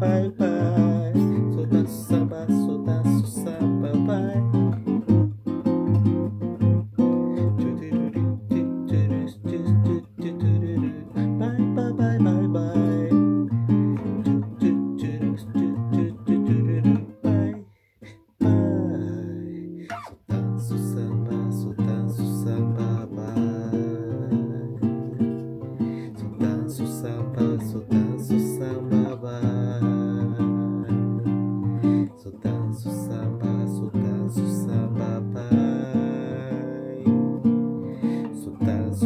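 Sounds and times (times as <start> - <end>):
classical guitar bossa nova: 0.0 - 39.0.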